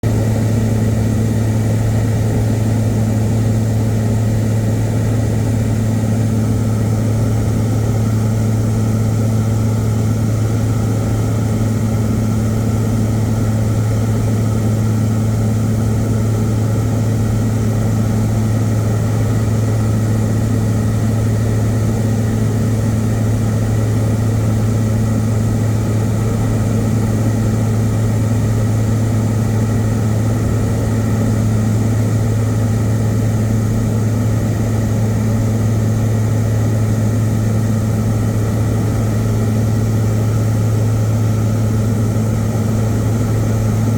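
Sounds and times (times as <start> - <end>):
aircraft engine drone from cabin: 0.0 - 43.9.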